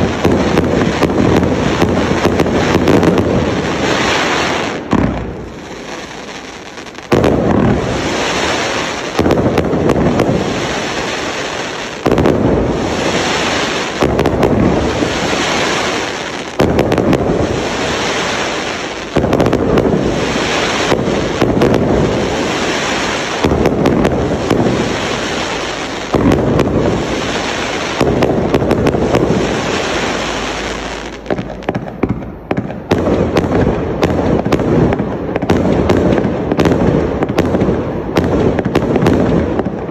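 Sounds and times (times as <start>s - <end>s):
fireworks bursts: 0.0s - 39.9s
sharp firework cracks: 0.0s - 39.9s.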